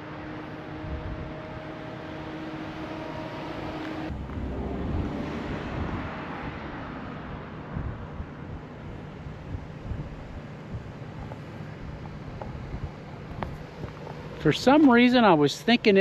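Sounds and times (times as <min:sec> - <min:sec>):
vehicle and wind rush: 0:00.0 - 0:16.0.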